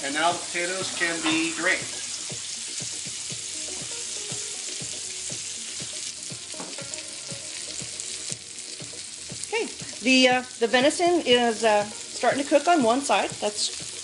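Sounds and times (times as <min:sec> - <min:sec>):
meat sizzling in a skillet: 0:00.0 - 0:14.0.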